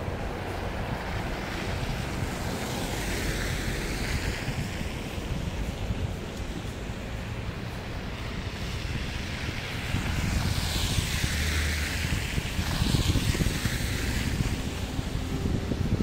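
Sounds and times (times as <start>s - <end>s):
car tyres hissing on slush: 0.0s - 16.0s.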